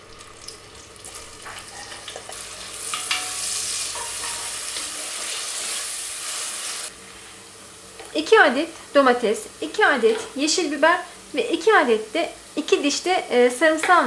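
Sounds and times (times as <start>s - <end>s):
onion sizzling in a pot: 0.0s - 14.0s.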